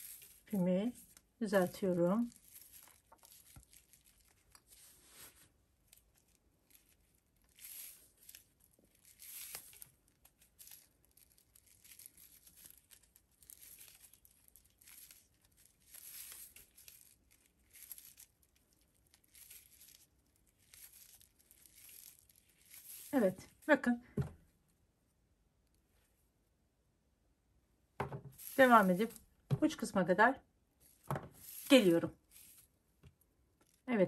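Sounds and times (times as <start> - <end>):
paper yarn crinkling: 0.0 - 24.3, 28.0 - 30.0, 30.8 - 34.0.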